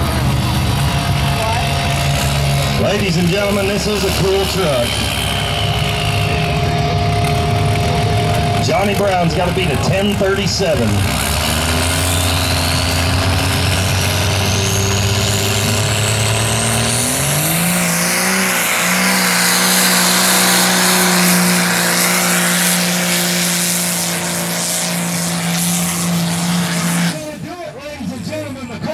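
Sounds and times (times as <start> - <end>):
high whine rising in pitch: 0.0 - 27.3
diesel truck engine revving: 0.0 - 28.9.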